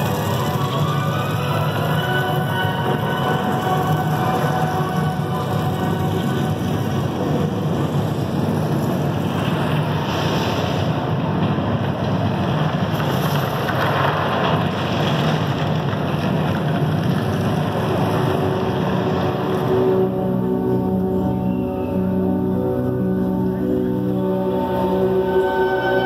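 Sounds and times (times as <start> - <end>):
music: 0.0 - 26.0
rushing noise over loudspeakers: 0.0 - 26.0.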